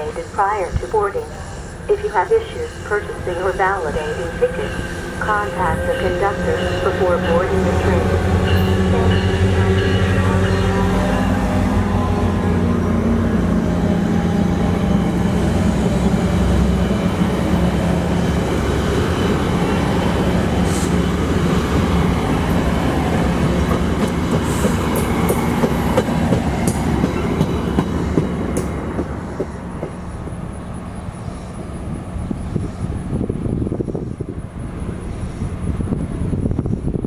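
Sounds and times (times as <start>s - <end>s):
train cars rumbling past: 0.0s - 37.0s.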